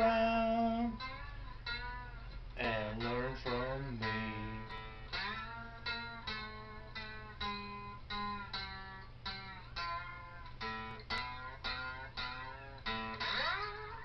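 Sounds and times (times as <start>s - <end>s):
slide guitar melody: 0.0s - 14.0s.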